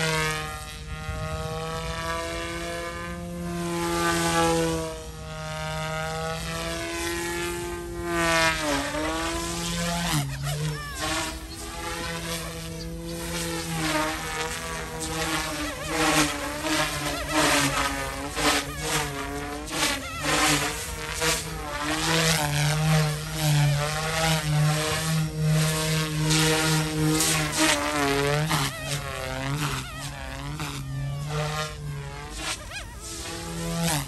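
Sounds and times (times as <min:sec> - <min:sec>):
rc helicopter motor whine: 0:00.0 - 0:34.0
rotor blade whooshes: 0:00.0 - 0:34.0.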